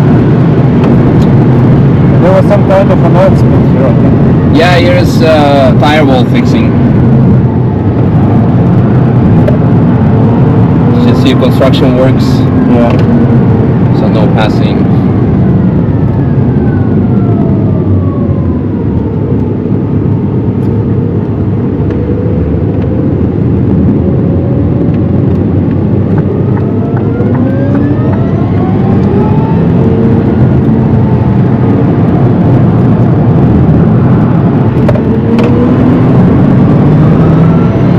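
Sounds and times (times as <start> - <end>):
tyre and road noise: 0.0 - 37.9.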